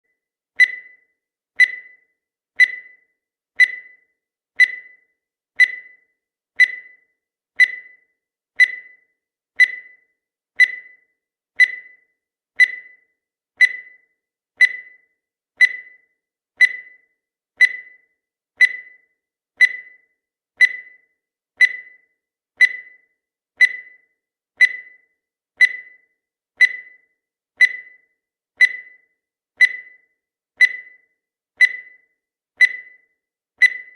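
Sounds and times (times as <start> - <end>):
high-pitched timer ticks: 0.0 - 33.9.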